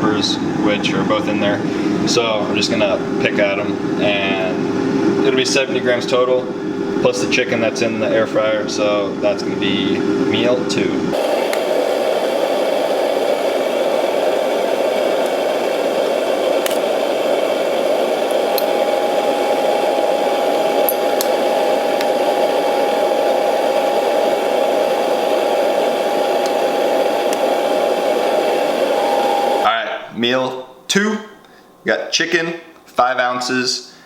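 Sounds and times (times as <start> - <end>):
appliance fan whirring: 0.0 - 34.0.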